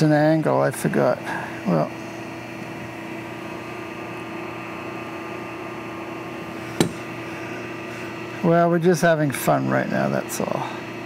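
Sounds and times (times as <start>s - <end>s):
mechanical background hum: 0.0s - 11.0s.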